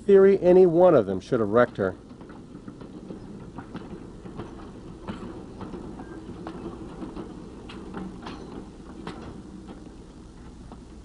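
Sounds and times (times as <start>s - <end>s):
wheels clicking and knocking: 0.0s - 11.0s
freight cars rumbling on track: 0.6s - 11.0s.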